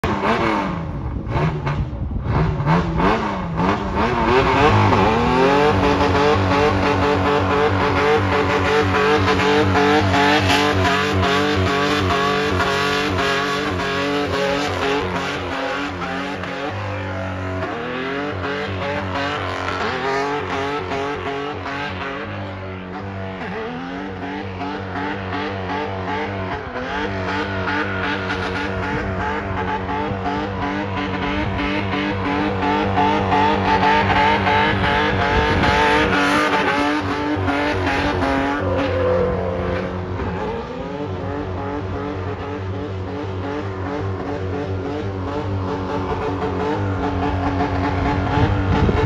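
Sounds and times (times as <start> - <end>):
car engine at high revs: 0.0 - 49.0.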